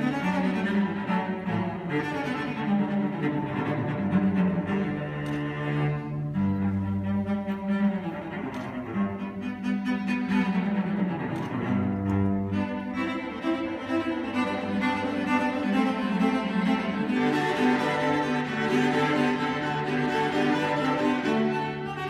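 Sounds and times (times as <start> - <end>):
cellos playing a bowed duet: 0.0 - 22.0.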